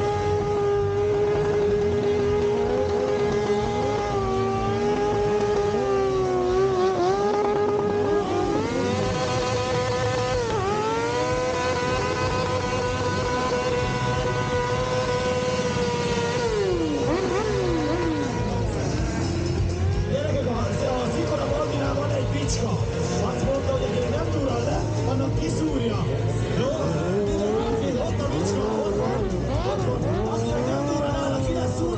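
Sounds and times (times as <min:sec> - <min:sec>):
motorcycle engine revving high: 0:00.0 - 0:31.9.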